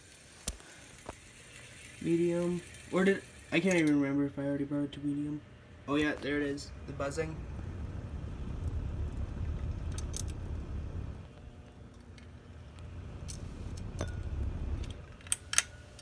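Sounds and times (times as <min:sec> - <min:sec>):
ceiling fan motor buzzing: 0:00.0 - 0:16.0.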